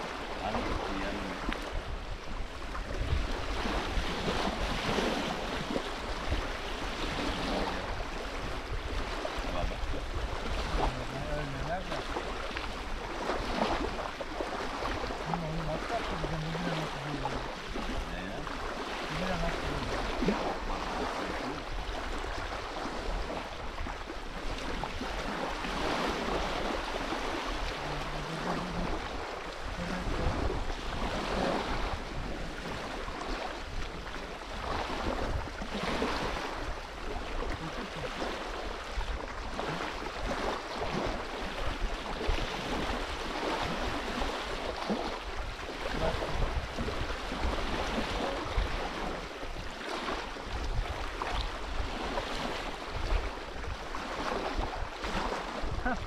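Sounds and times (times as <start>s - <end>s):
small waves washing on shore: 0.0s - 56.0s
wind buffeting microphone: 0.0s - 56.0s.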